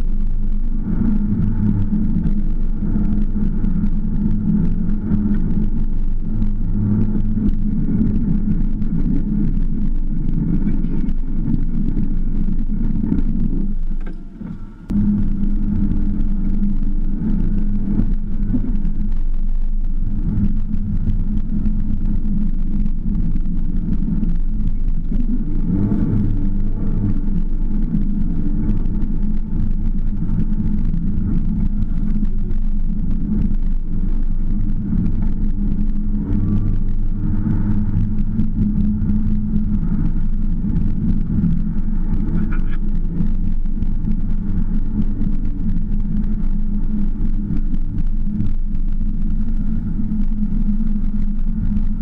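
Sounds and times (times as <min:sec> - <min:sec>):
car engine drone from inside cabin: 0:00.0 - 0:52.0.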